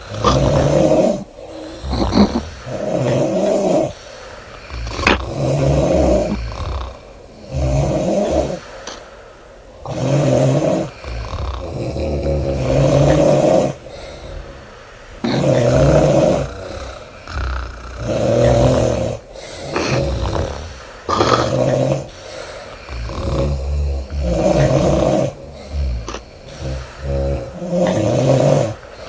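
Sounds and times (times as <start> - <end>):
woman snoring: 0.0 - 4.0, 4.6 - 9.0, 9.8 - 29.0
quiet breathing: 0.0 - 29.0.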